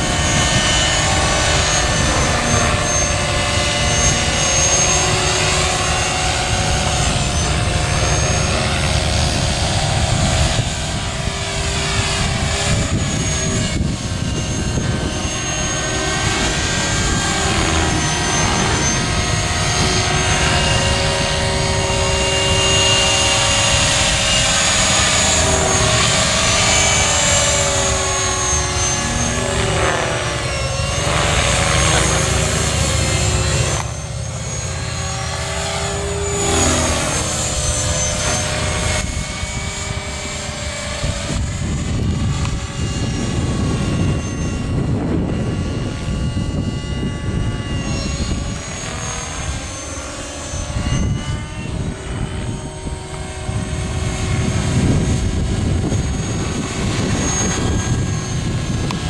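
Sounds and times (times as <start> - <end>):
model helicopter whine: 0.0 - 59.0.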